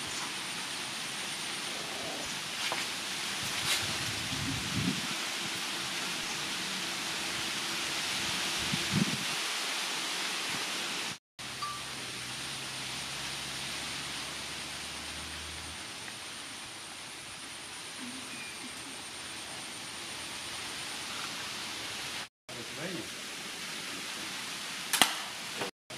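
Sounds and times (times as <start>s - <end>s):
steady background hiss: 0.0s - 25.7s.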